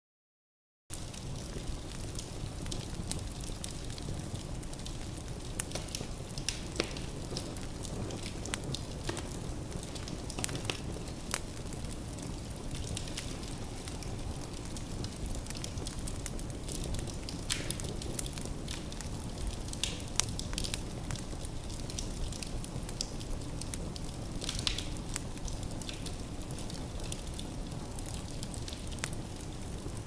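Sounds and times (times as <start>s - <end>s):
firewood crackling and popping: 0.9s - 30.0s
low rumble of flames: 0.9s - 30.0s.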